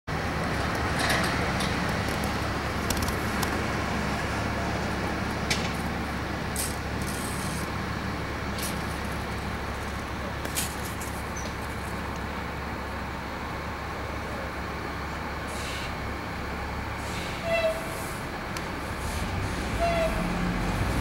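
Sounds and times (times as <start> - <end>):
road traffic: 0.1 - 21.0.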